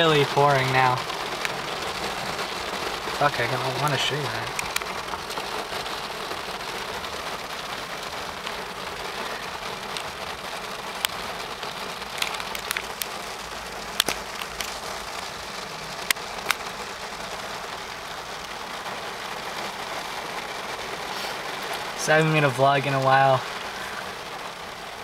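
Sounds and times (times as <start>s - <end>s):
heavy rain on car roof: 0.0s - 25.0s.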